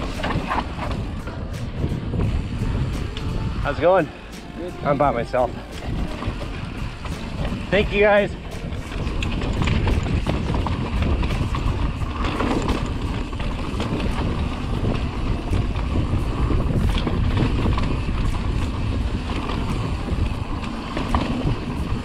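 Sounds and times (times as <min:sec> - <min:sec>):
bike tyres rumbling on dirt: 0:00.0 - 0:04.2, 0:04.9 - 0:22.0
bike clicks and rattles: 0:00.0 - 0:22.0
wind buffeting microphone: 0:00.0 - 0:22.0.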